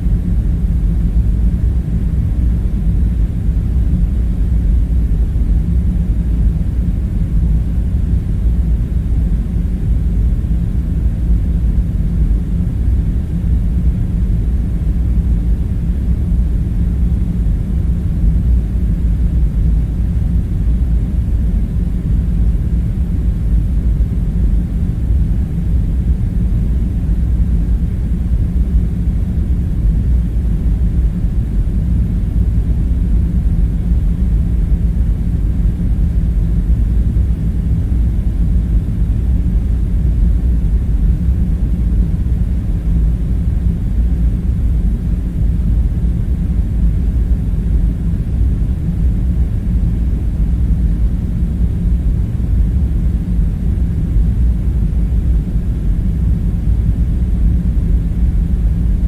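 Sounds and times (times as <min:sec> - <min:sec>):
faint hum: 0:00.0 - 0:59.0
low rumbling room drone: 0:00.0 - 0:59.0.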